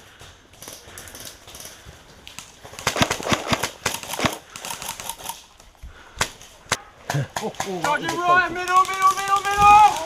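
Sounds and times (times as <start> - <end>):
airsoft guns snapping: 0.6 - 10.0.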